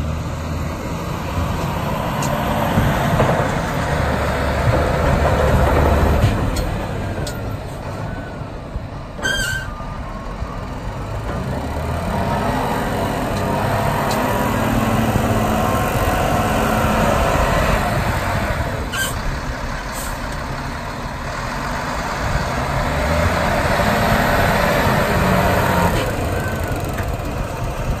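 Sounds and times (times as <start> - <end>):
diesel truck engine running hard: 0.0 - 28.0.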